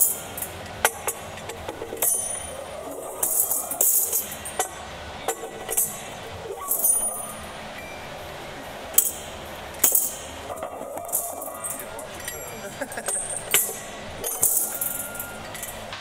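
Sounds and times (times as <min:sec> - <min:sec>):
metal gym equipment clinking: 0:00.0 - 0:16.0.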